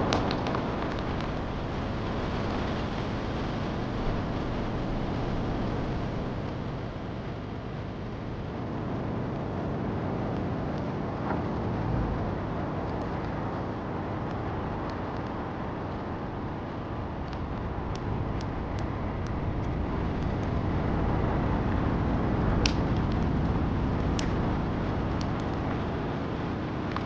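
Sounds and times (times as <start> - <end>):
steady rain: 0.0 - 27.0
wood fire crackling and popping: 0.0 - 27.0.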